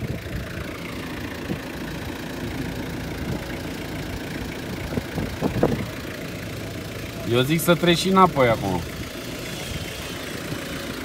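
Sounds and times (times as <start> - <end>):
engine idling inside cabin: 0.0 - 11.0.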